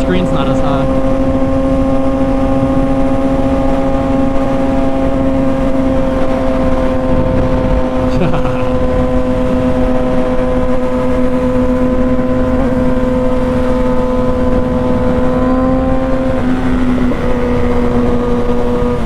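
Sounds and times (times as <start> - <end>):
heavy wind rush: 0.0 - 19.0
motorcycle engine at high revs: 0.0 - 19.0.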